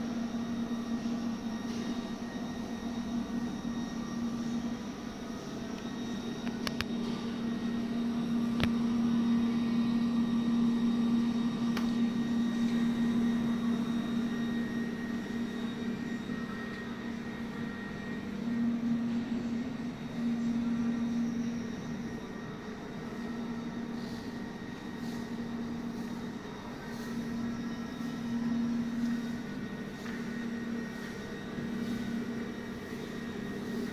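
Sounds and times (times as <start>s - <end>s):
welding machine hum: 0.0s - 33.9s.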